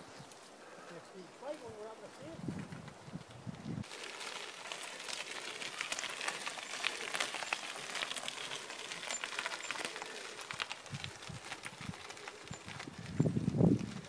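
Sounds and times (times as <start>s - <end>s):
bike tyres rolling on gravel: 1.4s - 14.0s.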